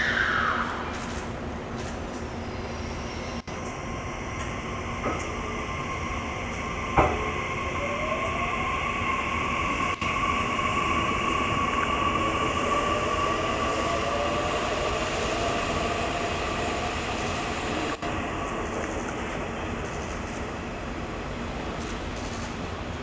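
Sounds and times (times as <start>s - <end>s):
electric train high whine: 0.0s - 23.0s
rail noise: 0.0s - 23.0s.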